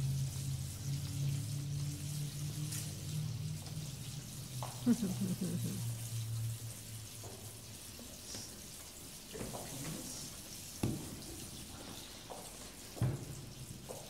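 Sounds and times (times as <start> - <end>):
water trickling in stone font: 0.0 - 14.0.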